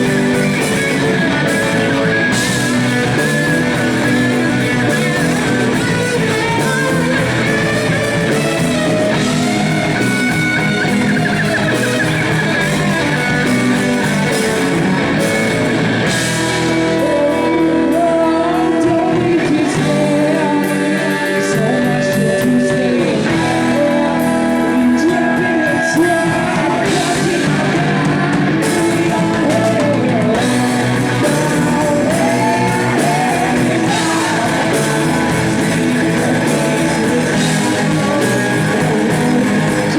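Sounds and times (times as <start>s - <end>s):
live blues-rock band: 0.0s - 39.9s
person singing: 0.0s - 39.9s.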